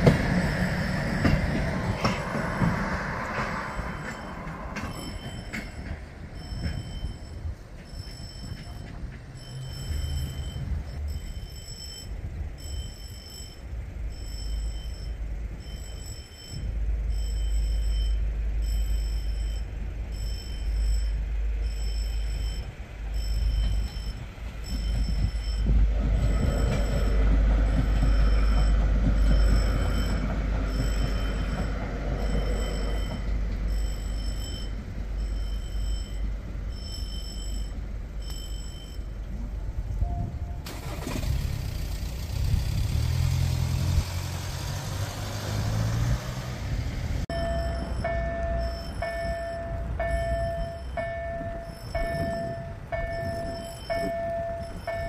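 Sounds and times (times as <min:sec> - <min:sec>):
level crossing warning bell: 0:00.0 - 0:41.2, 0:47.3 - 0:55.0.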